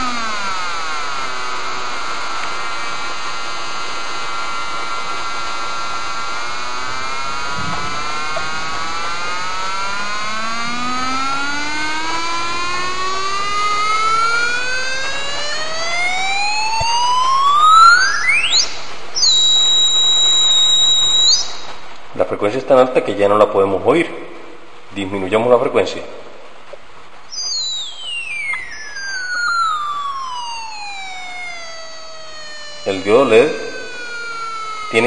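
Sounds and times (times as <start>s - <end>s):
buzzy square-wave tone rising in pitch: 0.0s - 21.8s, 27.3s - 35.0s.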